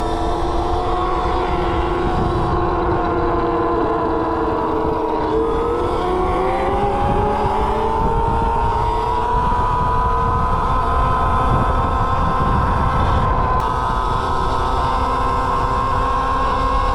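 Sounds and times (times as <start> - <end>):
electric motor whining: 0.0 - 16.9
low wind rumble: 0.0 - 16.9.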